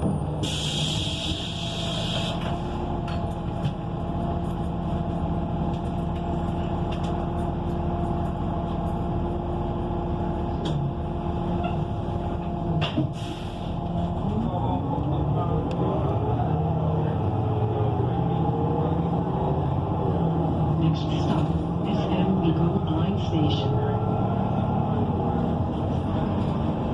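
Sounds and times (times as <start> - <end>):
bus engine running: 0.0 - 26.9.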